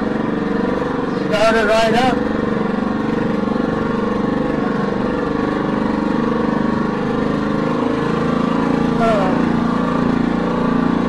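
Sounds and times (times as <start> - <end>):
motorized bicycle engine running: 0.0 - 11.0.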